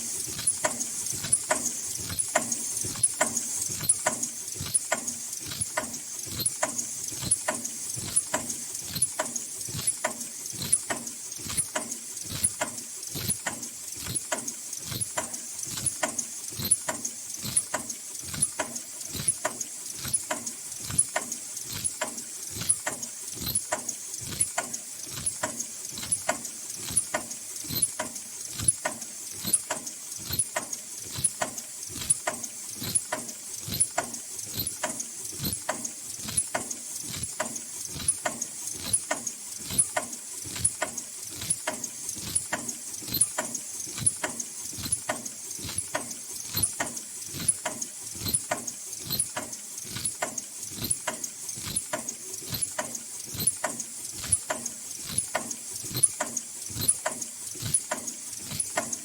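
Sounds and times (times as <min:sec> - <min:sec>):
mechanical clacking: 0:00.3 - 0:59.0.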